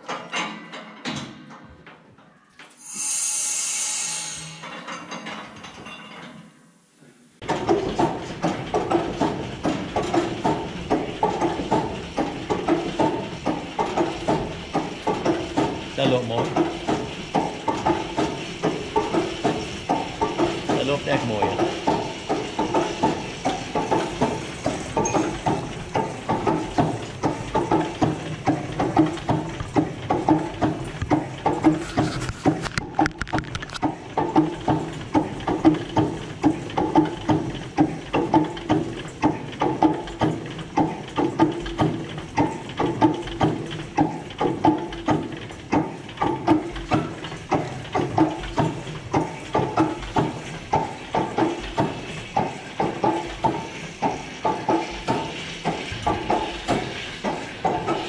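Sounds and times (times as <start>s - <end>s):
stationary engine running slowly: 7.4s - 58.0s.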